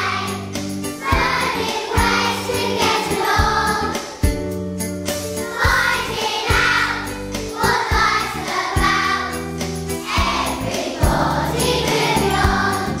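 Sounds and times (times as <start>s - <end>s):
children singing in unison: 0.0s - 4.2s, 5.4s - 13.0s
instrumental accompaniment with beat: 0.0s - 13.0s.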